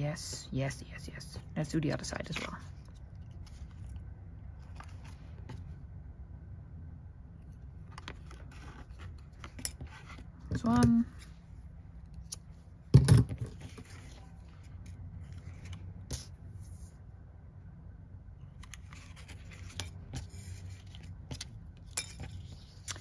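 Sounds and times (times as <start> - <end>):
faint low rumble: 0.0 - 23.0.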